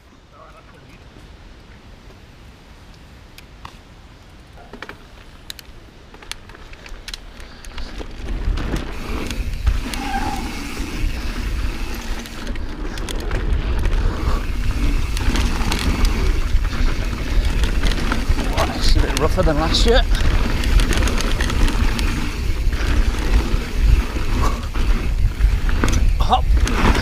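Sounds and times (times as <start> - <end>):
wind: 0.0 - 27.0
rush of tyres on dirt: 3.7 - 27.0
bike clicks and rattles: 4.6 - 27.0.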